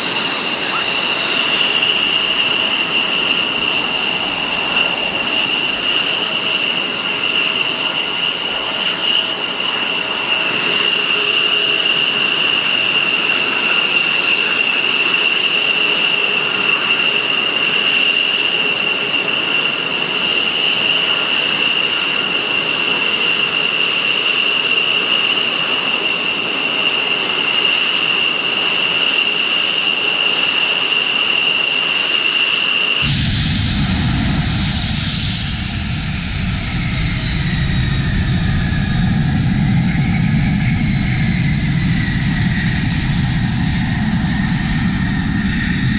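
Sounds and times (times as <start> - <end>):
jet engine whining: 0.0 - 45.9.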